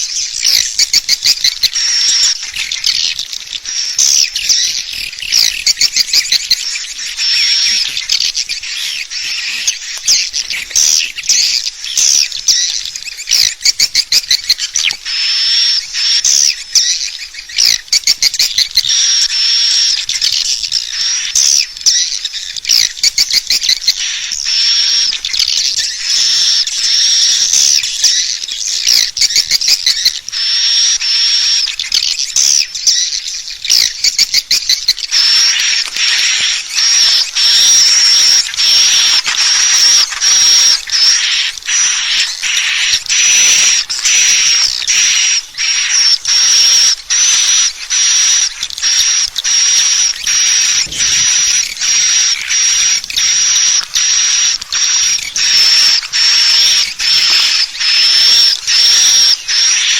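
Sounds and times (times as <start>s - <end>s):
swiftlets twittering and clicking: 0.0s - 59.9s.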